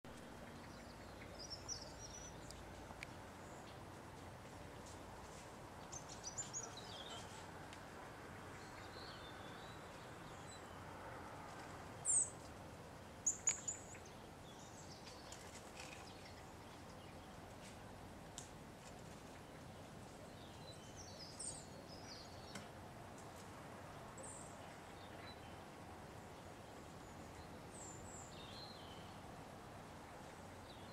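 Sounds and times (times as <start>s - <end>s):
faint outdoor hiss: 0.1s - 30.9s
songbird chirping: 0.1s - 30.9s.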